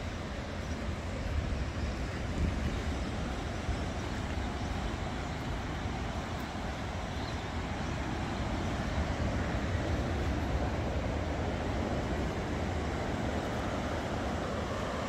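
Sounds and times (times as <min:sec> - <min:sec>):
ocean surf roaring: 0:00.0 - 0:15.0
wind buffeting microphone: 0:00.0 - 0:15.0.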